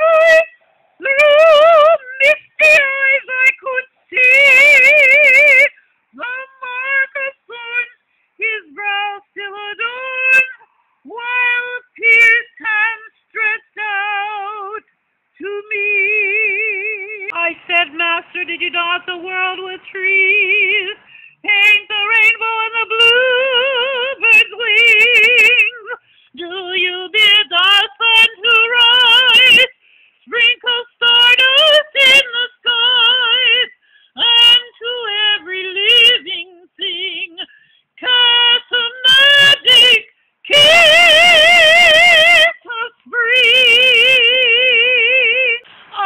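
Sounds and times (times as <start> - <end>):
woman singing a hymn: 0.0 - 46.0.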